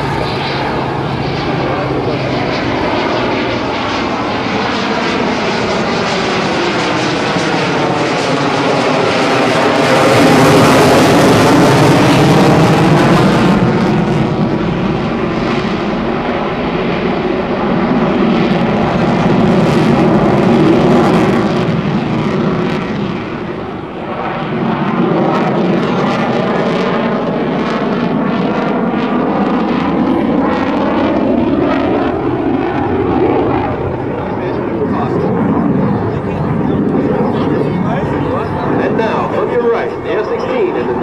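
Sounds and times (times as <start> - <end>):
jet engine roar: 0.0 - 41.0.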